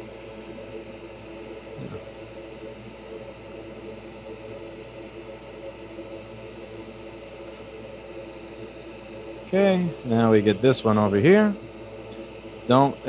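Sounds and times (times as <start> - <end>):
fan whirring: 0.0 - 13.0.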